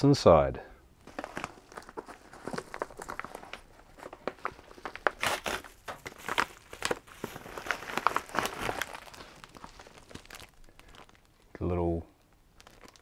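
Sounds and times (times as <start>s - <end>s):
padded paper bag crinkling: 1.0s - 13.0s.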